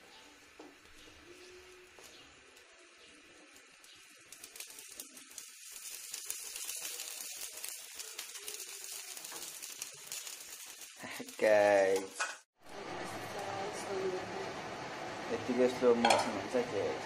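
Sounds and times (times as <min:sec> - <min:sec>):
patty sizzling in a pan: 0:00.0 - 0:17.0.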